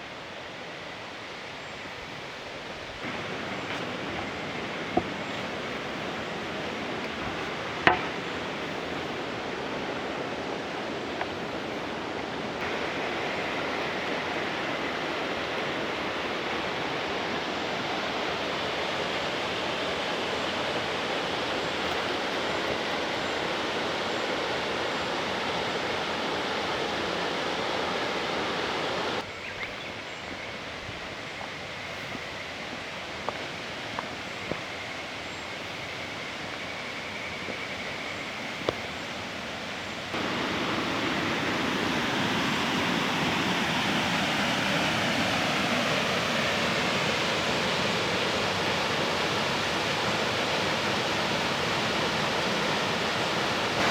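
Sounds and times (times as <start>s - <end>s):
waterfall rushing: 0.0s - 29.2s, 32.0s - 53.9s.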